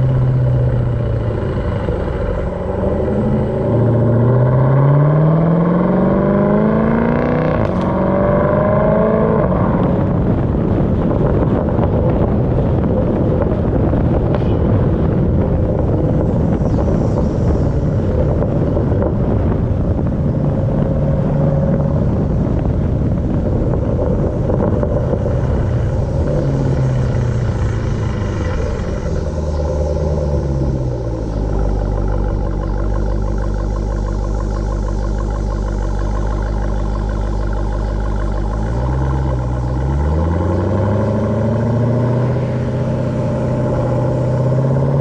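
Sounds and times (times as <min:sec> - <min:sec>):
car engine accelerating hard: 0:00.0 - 0:45.0
rush of noise at speed: 0:00.0 - 0:45.0.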